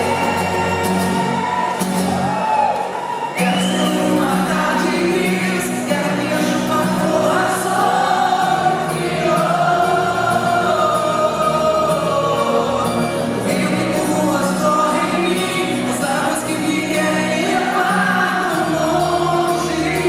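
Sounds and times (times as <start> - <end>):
people singing: 0.0 - 2.4, 3.4 - 20.0
live band playing: 0.0 - 20.0.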